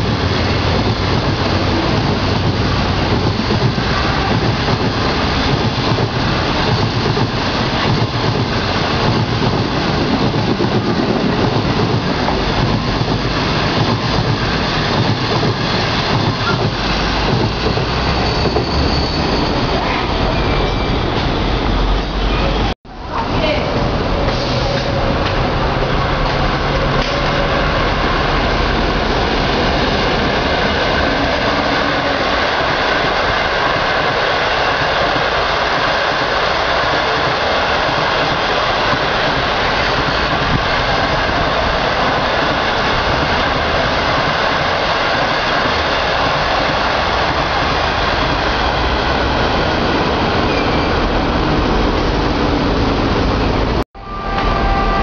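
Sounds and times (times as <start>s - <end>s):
train wheels rushing on rails: 0.0s - 55.0s.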